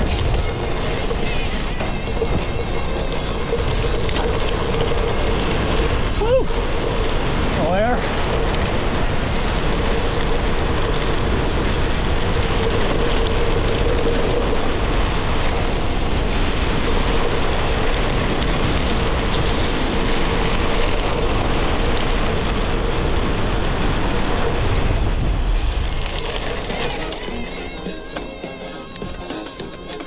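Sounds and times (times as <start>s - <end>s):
wind rushing over microphone: 0.0s - 27.8s
tyres rolling over gravel: 0.0s - 30.0s.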